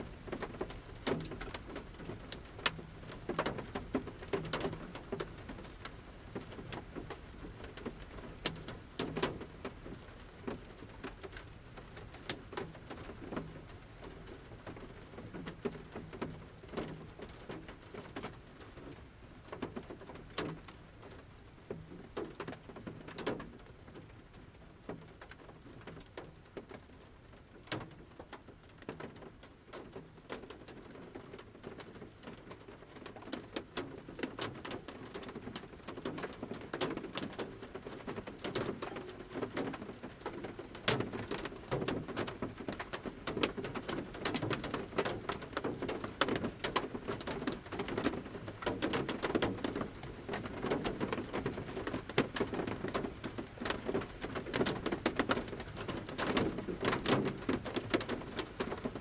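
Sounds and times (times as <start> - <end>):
raindrops on metal roof: 0.0 - 59.0.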